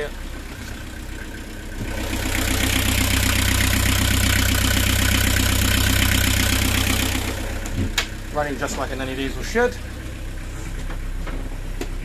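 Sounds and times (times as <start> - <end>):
diesel engine clattering: 0.0 - 12.0.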